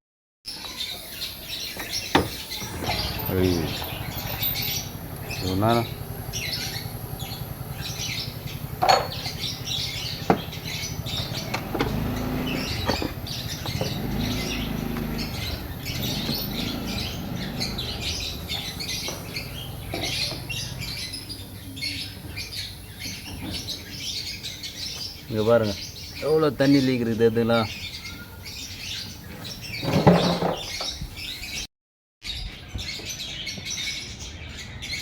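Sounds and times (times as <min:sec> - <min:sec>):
small birds chirping: 0:00.5 - 0:35.0.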